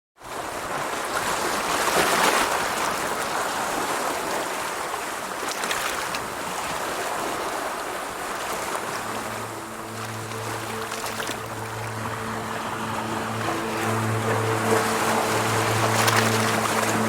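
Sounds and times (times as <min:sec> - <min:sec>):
rushing water: 0:00.3 - 0:17.0.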